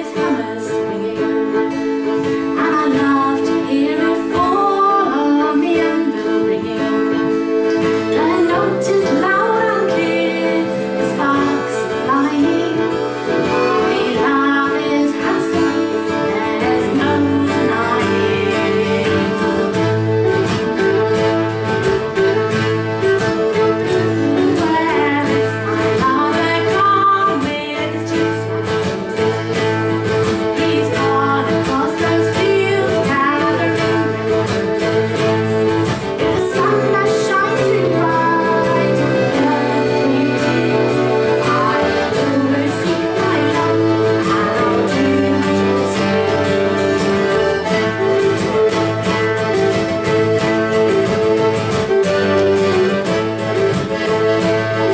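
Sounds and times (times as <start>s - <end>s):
acoustic guitar: 0.0s - 54.9s
fiddle: 0.0s - 54.9s.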